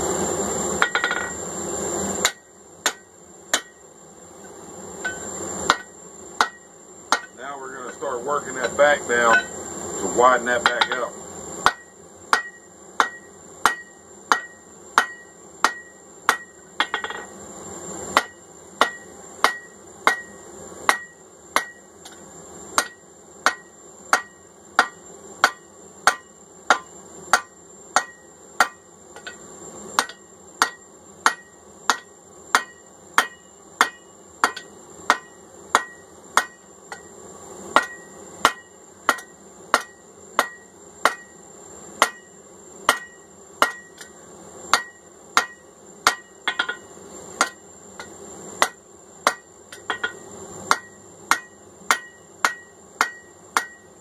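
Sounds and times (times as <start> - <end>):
hammer striking steel on anvil: 0.8 - 1.4, 2.2 - 3.8, 5.0 - 9.6, 10.6 - 17.3, 18.2 - 22.2, 22.8 - 29.4, 30.0 - 37.1, 37.8 - 41.4, 42.0 - 53.9.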